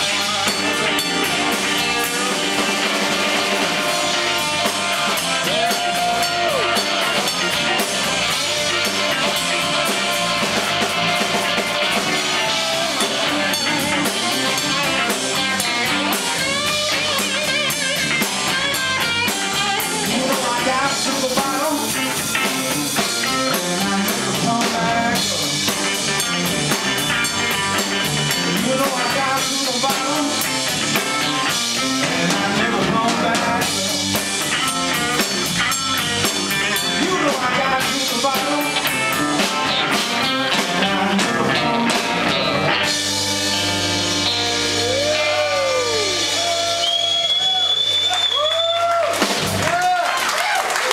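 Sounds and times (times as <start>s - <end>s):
electric guitar lead: 0.0s - 47.4s
rhythm guitar: 0.0s - 50.3s
bass guitar: 0.0s - 50.9s
drums: 0.0s - 50.9s.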